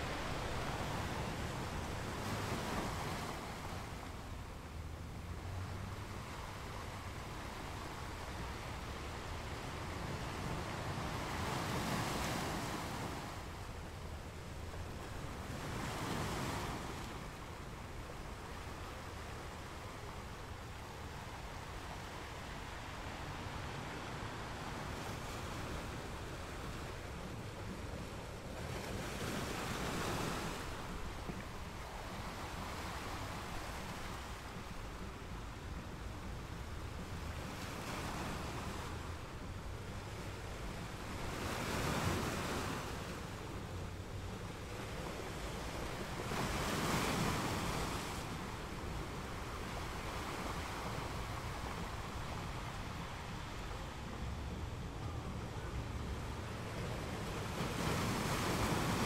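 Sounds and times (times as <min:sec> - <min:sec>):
sea water surging: 0:00.0 - 0:59.0.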